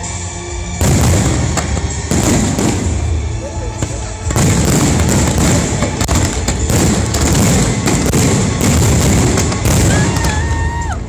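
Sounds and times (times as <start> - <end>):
firework shells bursting: 0.8 - 10.8.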